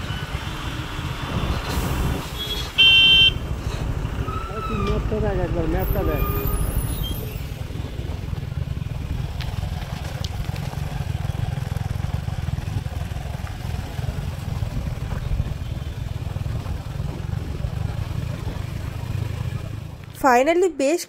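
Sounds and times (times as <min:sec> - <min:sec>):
motorcycle riding rumble: 0:00.0 - 0:20.4.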